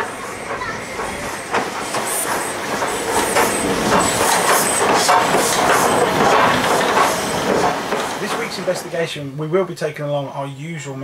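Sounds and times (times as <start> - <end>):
train wheels clacking: 0.0 - 9.2
train running on track: 0.0 - 9.4.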